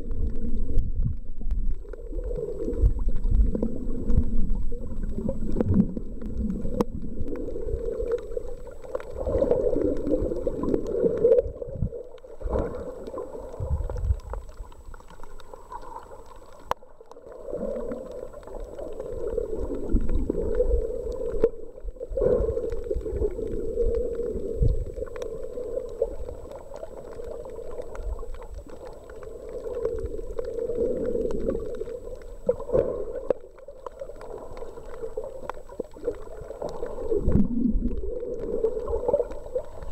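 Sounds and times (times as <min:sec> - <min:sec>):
underwater water sloshing and gurgling: 0:00.0 - 0:39.9.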